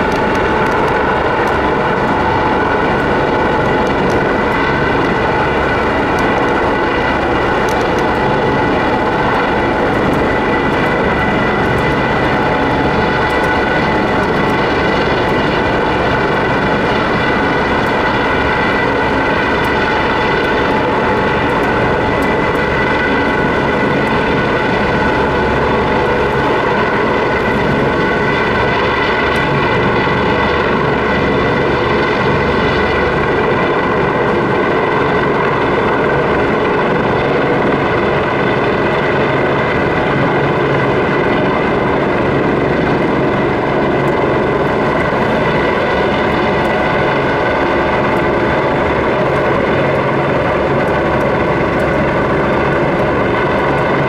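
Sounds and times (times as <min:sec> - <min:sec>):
helicopter rotor rumble: 0:00.0 - 0:54.0
helicopter turbine whine: 0:00.0 - 0:54.0.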